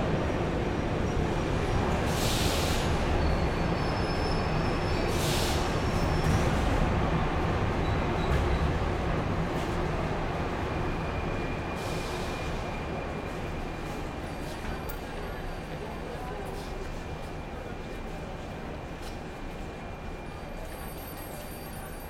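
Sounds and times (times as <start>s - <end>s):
metro train low rumble: 0.0s - 22.0s.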